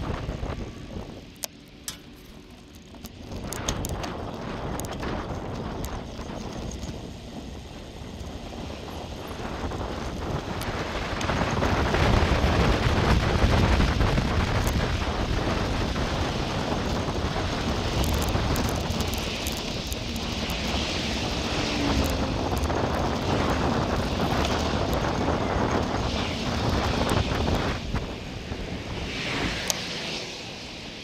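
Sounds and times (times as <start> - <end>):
wind buffeting microphone: 0.0 - 31.0
bicycle clicks and rattles: 0.5 - 27.8.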